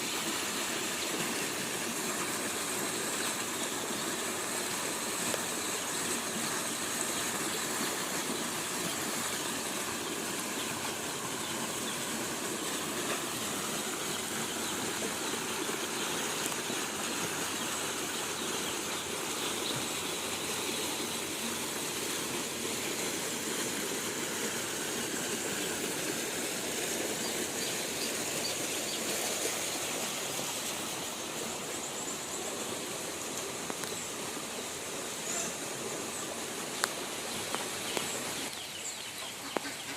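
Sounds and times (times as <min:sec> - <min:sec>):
runoff water flowing: 0:00.0 - 0:39.9.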